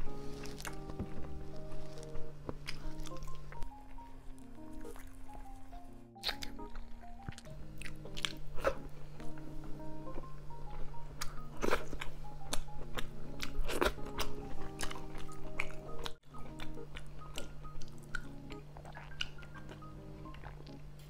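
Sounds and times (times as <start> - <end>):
close chewing and biting: 0.0 - 21.0
soft background music: 0.0 - 21.0.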